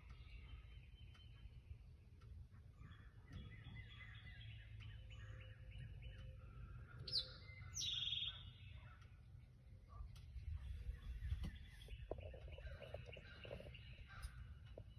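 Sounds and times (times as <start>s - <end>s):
bird chirps: 0.0s - 14.9s
low background rumble: 0.0s - 14.9s.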